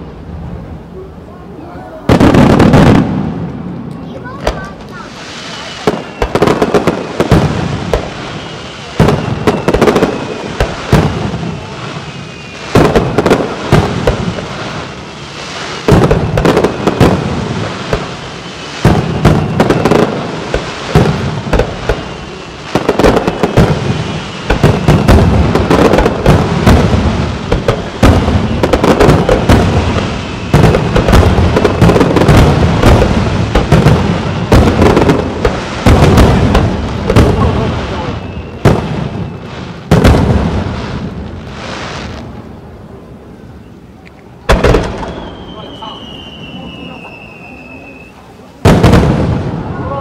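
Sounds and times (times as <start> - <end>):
fireworks bursting with bangs: 0.0 - 50.0
faint firework whistling: 4.1 - 40.2, 43.2 - 50.0.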